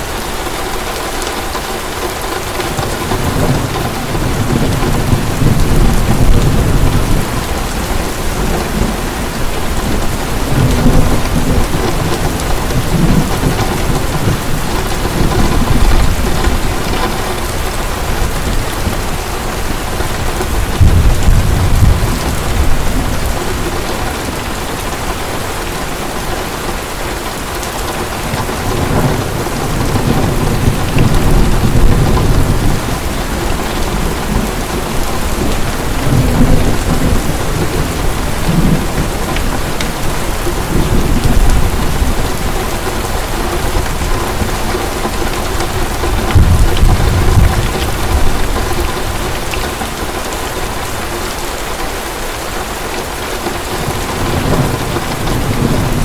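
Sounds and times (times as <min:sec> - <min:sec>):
heavy rain falling: 0:00.0 - 0:56.0
thunder rolling: 0:02.4 - 0:25.3, 0:28.0 - 0:51.0, 0:53.6 - 0:56.0.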